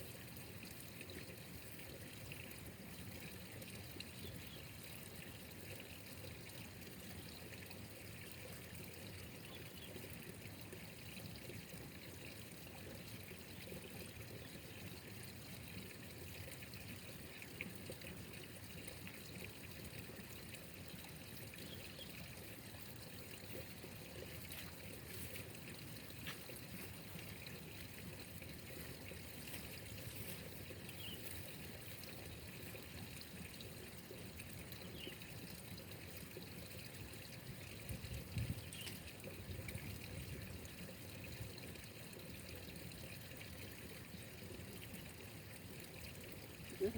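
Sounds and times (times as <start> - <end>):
water trickling: 0.0 - 46.9.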